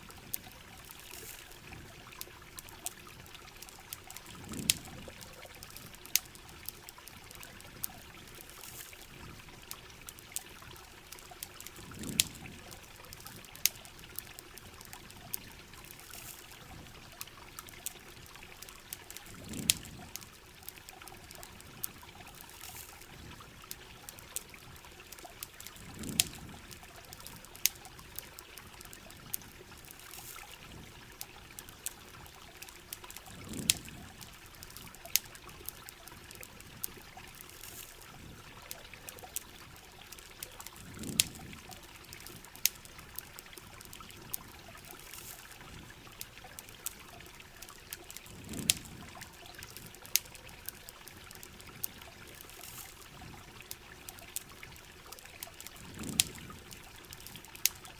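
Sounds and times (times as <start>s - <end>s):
low gurgling water: 0.0s - 57.9s
water trickling and pouring: 0.0s - 57.9s
sharp pops and ticks: 0.1s - 57.9s.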